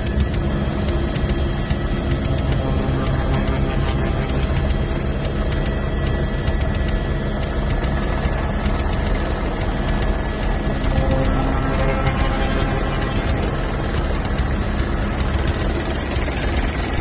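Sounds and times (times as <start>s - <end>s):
helicopter rotor and engine drone: 0.0s - 17.0s
thin high turbine whine: 0.0s - 17.0s.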